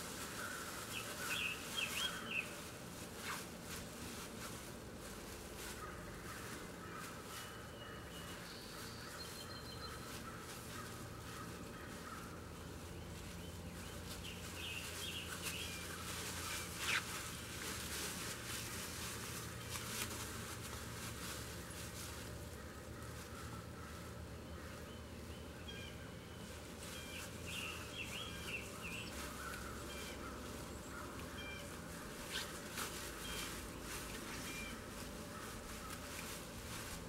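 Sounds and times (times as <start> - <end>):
distant birds calling: 0.0 - 3.8, 5.5 - 36.9
low steady hum: 0.0 - 37.0.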